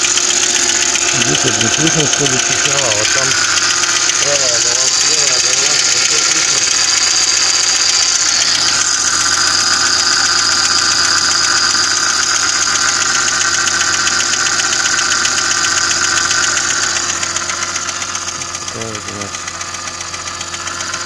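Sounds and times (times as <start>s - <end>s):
car engine idling: 0.0s - 21.0s
engine ticking knock: 0.0s - 21.0s.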